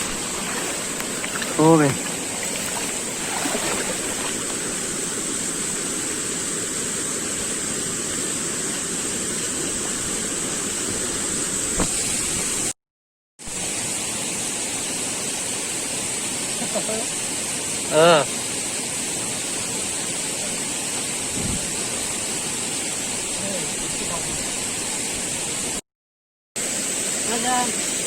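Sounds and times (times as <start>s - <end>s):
stream rushing over rocks: 0.0s - 12.7s, 13.5s - 25.8s.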